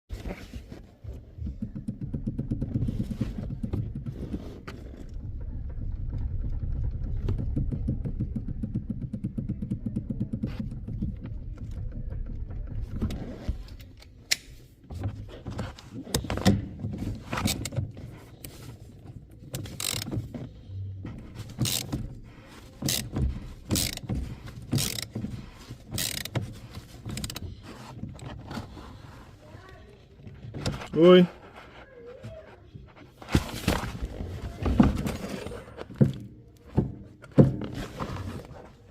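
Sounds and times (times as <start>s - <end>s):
steering knocks and clicks: 0.1s - 38.9s.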